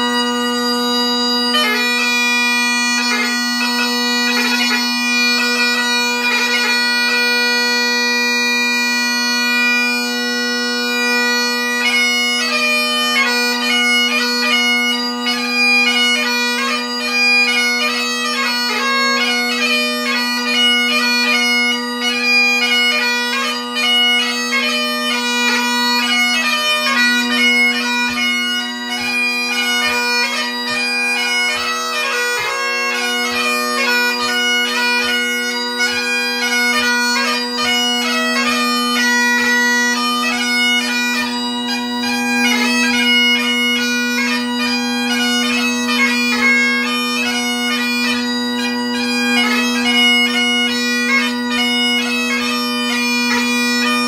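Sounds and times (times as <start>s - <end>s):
bagpipe playing: 0.0s - 54.0s.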